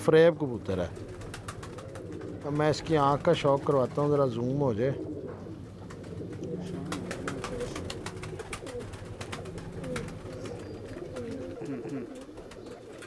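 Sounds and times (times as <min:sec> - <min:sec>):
pigeons cooing: 0:00.5 - 0:13.0.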